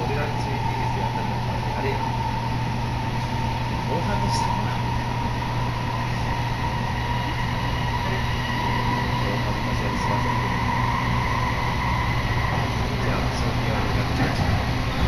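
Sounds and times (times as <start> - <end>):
high whine: 0.0 - 15.0
train rumbling on rails: 0.0 - 15.0.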